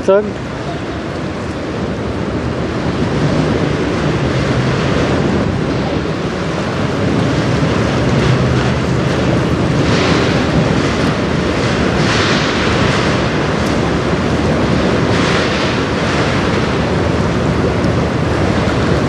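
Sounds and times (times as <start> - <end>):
choppy river water: 0.0 - 19.0
low engine hum: 0.0 - 19.0
wind buffeting microphone: 0.0 - 19.0.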